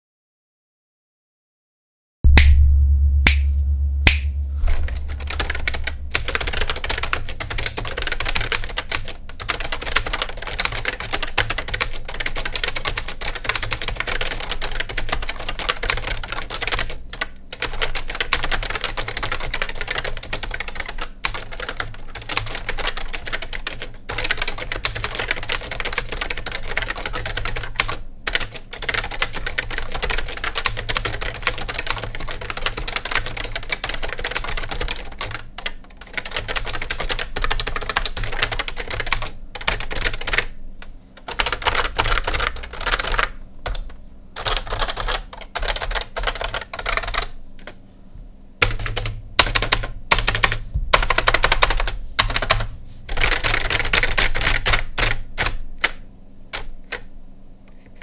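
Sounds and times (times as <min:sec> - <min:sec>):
rattly keyboard typing: 0:04.8 - 0:40.6, 0:41.2 - 0:47.8, 0:48.6 - 0:57.1, 0:57.7 - 0:58.0.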